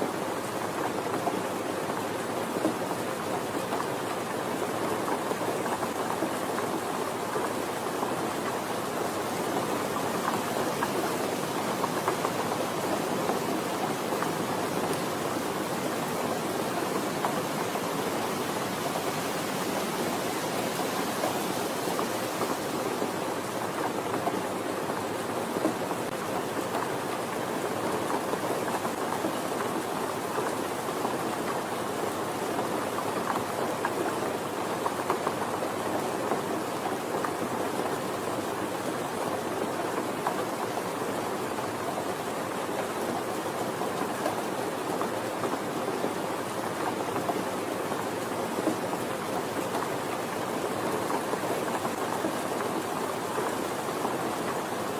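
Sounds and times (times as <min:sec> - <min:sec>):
soft rain falling: 0:00.0 - 0:54.9.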